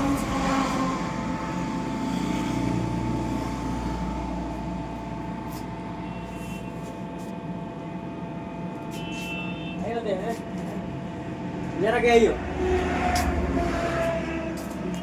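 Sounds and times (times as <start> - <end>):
faint machine whine: 0.0 - 15.0.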